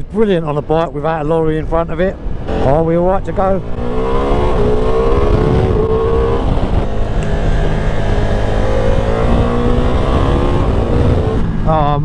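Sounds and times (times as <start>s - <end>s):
wind rush: 0.3s - 11.9s
motorcycle engine accelerating: 1.6s - 12.0s.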